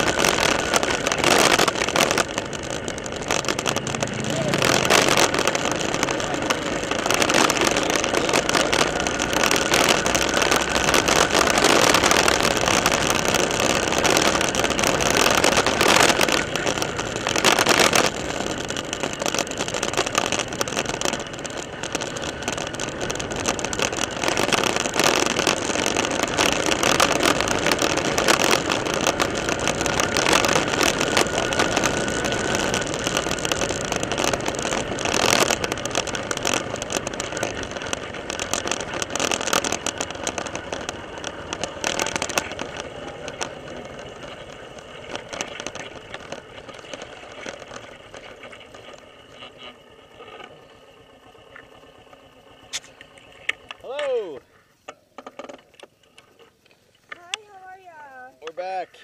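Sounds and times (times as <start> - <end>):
motorcycle engine running: 0.0 - 54.4, 57.0 - 58.7
wind and road noise: 0.0 - 59.0.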